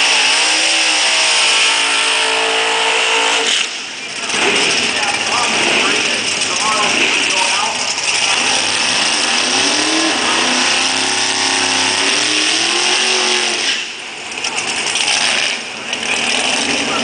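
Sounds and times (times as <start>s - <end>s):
engine revving at high revs: 0.0s - 17.0s
tires spinning: 0.0s - 17.0s.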